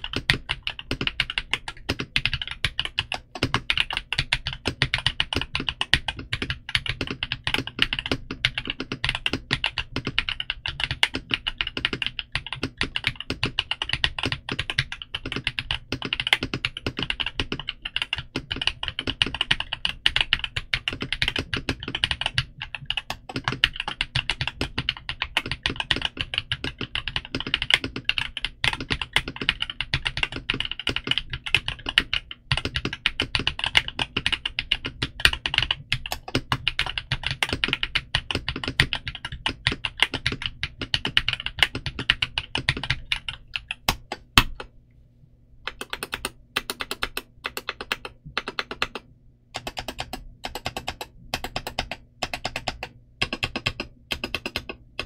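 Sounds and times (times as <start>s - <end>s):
typing on a mechanical keyboard: 0.0s - 44.7s, 45.7s - 55.0s.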